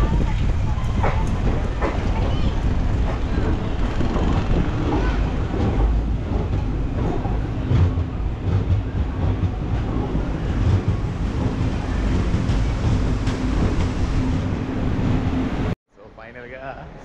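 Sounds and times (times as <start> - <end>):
train wheels rumbling on rail: 0.0 - 15.8.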